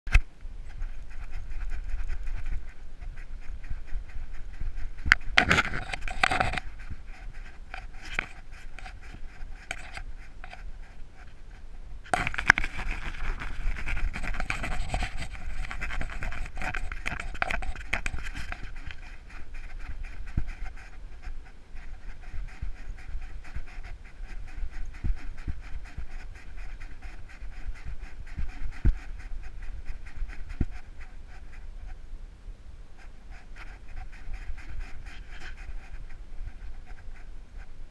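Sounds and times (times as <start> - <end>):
dog panting rapidly: 0.7 - 31.9, 33.0 - 37.9.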